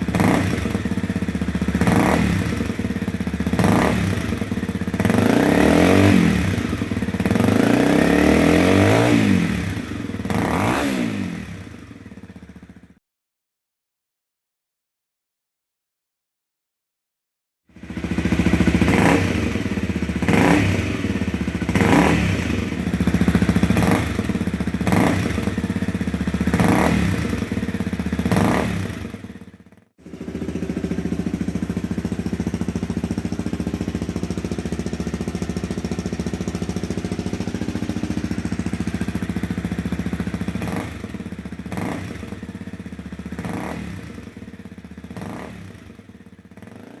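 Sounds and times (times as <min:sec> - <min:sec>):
motorcycle engine revving and idling: 0:00.0 - 0:13.0, 0:17.7 - 0:47.0.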